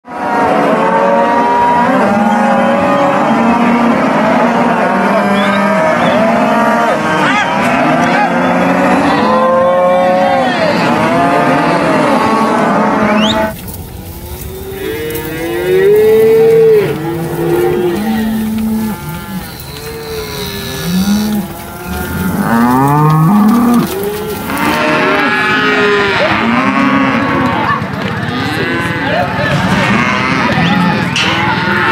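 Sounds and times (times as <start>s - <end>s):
cattle mooing: 0.1s - 31.9s.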